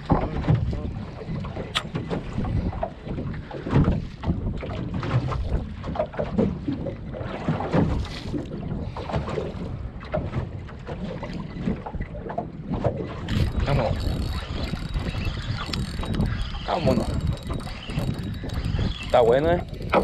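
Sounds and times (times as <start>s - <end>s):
water slapping against boat hull: 0.0s - 20.0s
wind buffeting microphone: 0.0s - 20.0s.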